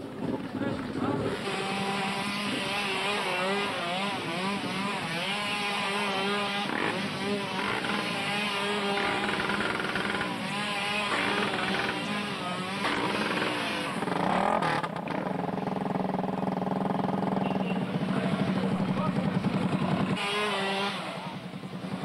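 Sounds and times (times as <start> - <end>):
dirt bike engine revving: 1.0 - 22.0.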